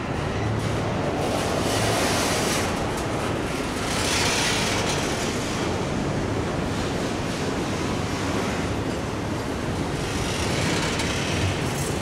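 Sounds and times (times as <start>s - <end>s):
freight train wheels rolling on rails: 0.0s - 12.0s.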